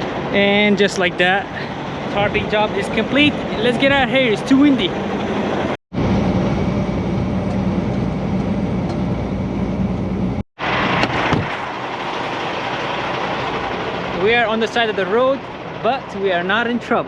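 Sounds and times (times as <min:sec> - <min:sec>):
diesel truck engine running: 0:00.0 - 0:17.0
road noise: 0:00.0 - 0:17.0.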